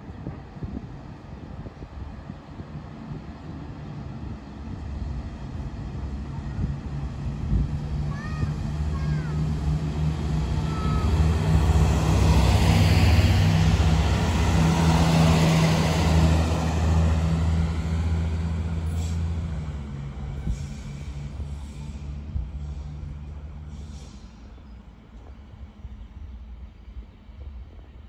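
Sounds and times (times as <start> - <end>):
diesel train engines droning: 0.0 - 28.0.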